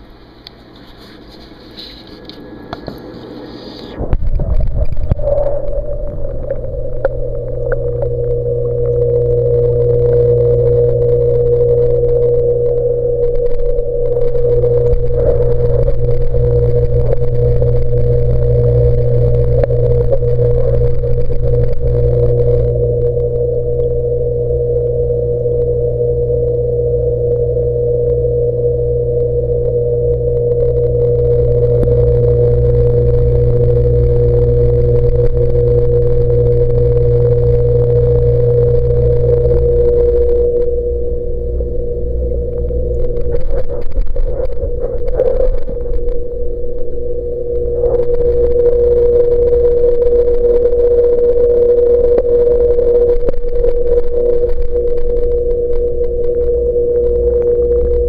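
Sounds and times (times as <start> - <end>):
aquarium pump humming: 0.0 - 58.0.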